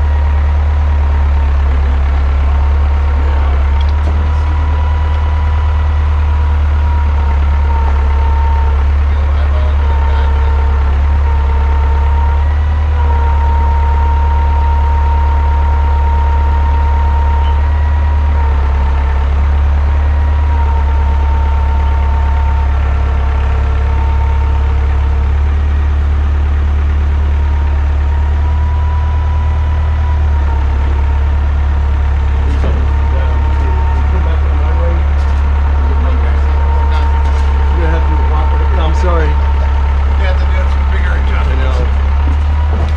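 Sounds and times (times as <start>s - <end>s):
engine high whine: 0.0s - 42.9s
engine low drone: 0.0s - 42.9s.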